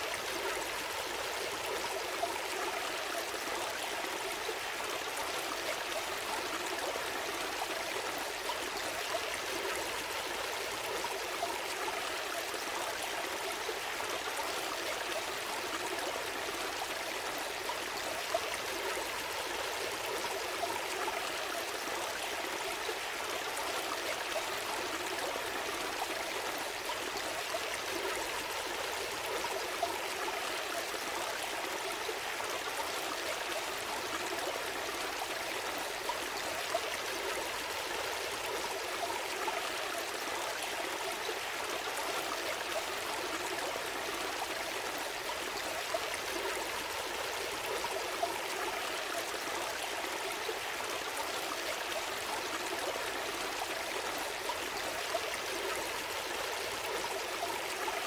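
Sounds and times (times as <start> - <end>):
gentle stream flowing: 0.0 - 58.0.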